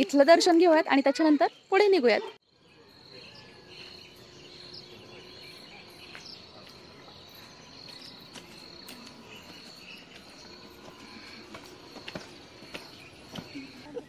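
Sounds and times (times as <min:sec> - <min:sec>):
insects buzzing: 0:02.5 - 0:14.0.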